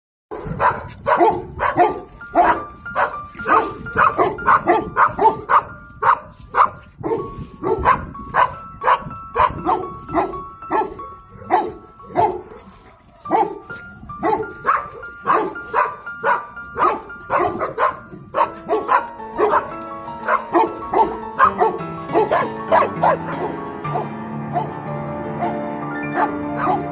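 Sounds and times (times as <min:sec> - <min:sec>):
dog barking: 0:00.3 - 0:12.7, 0:13.3 - 0:24.8, 0:25.4 - 0:26.9
background music: 0:00.3 - 0:26.9.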